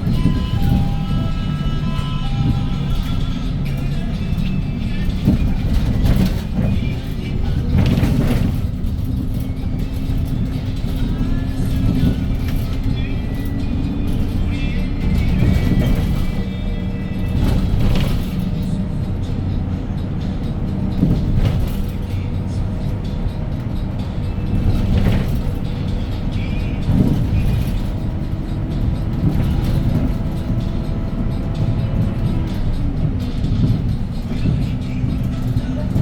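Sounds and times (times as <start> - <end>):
bus engine running: 0.0 - 36.0
music playing: 0.0 - 36.0.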